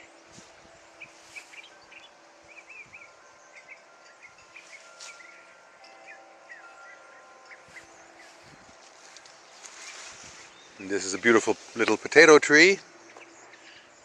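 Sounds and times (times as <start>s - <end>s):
small birds chirping: 0.0s - 14.0s
wind chimes faintly ringing: 0.0s - 14.0s.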